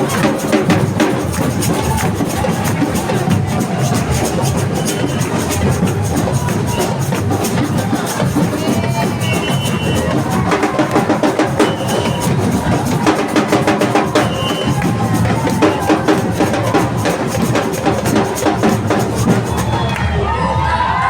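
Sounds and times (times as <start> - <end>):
samba percussion drums: 0.0 - 21.0.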